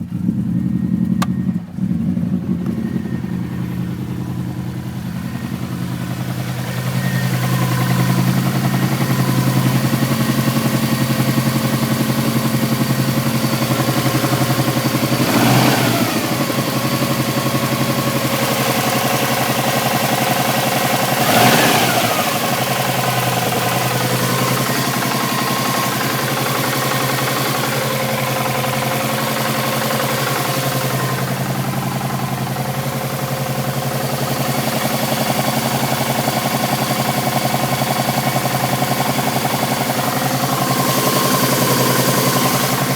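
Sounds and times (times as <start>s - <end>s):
car engine idling with knock: 0.0s - 42.9s
car engine revving: 0.0s - 42.9s.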